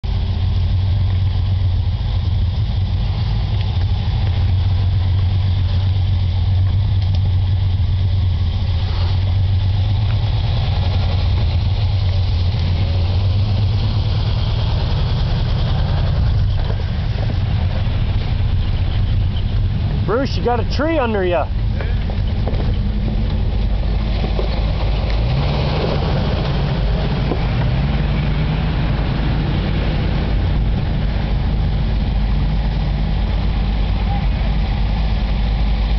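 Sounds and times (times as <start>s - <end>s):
off-road engines idling: 0.0s - 35.9s.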